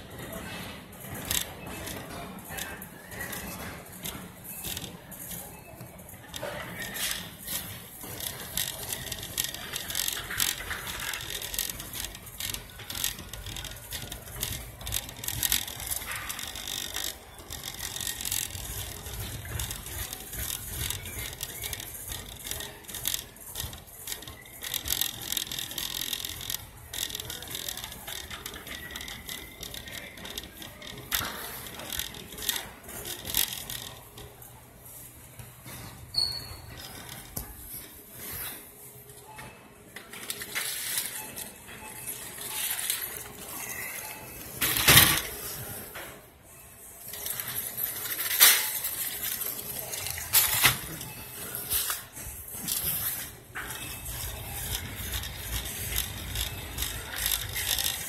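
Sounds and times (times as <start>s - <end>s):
shopping cart rattling: 0.0s - 38.9s, 40.0s - 58.0s.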